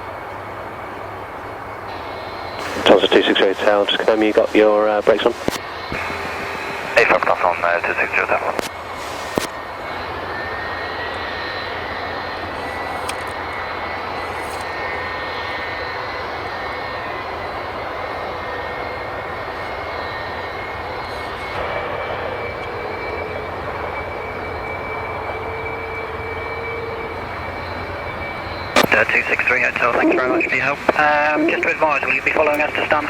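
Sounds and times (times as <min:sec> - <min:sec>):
jet engine idling with whine: 0:00.0 - 0:33.0.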